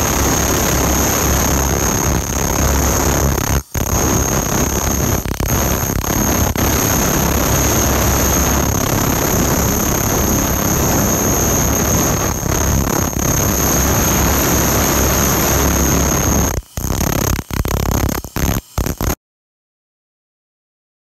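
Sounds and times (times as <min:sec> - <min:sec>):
laser cleaner hissing and whining: 0:00.0 - 0:19.2.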